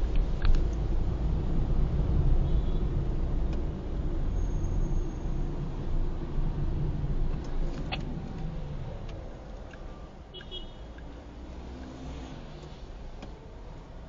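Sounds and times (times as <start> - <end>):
car driving rumble from inside: 0.0 - 14.0.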